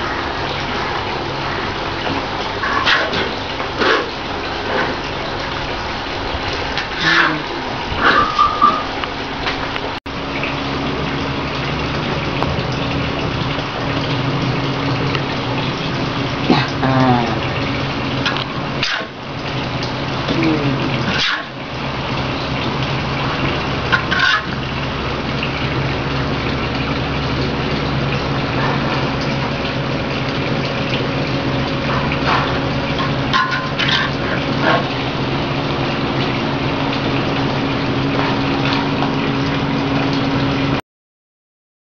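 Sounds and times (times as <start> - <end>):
low steady hum: 0.0 - 40.8.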